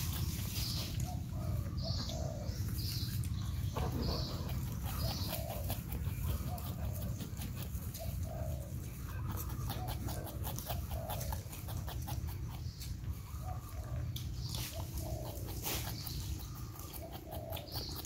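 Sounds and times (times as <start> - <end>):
porcupine snuffling and grunting: 0.0 - 18.0.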